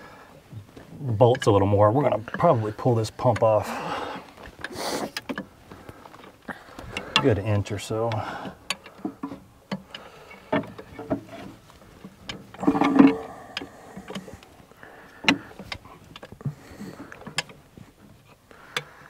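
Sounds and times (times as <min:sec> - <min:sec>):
wrenches clicking on metal: 0:01.2 - 0:05.5, 0:06.2 - 0:19.0.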